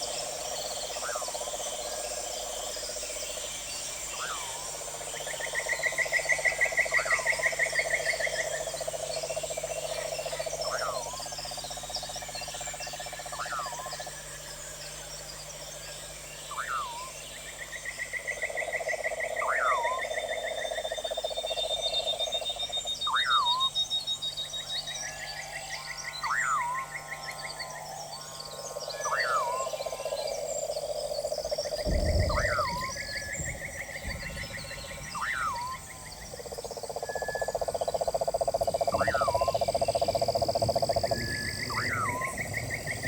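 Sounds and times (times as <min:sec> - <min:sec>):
frog pulsed trills: 0:00.0 - 0:43.0
high insect chorus: 0:00.0 - 0:43.0.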